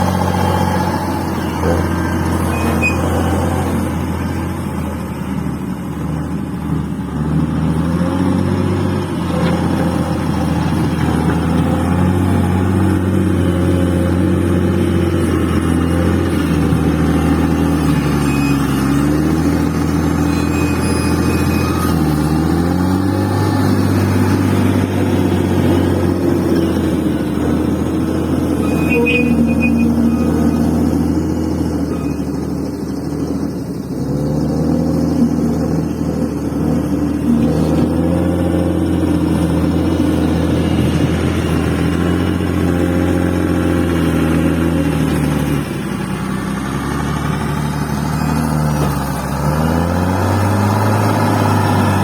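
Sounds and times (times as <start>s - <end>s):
bulldozer diesel engine working: 0.0s - 52.0s.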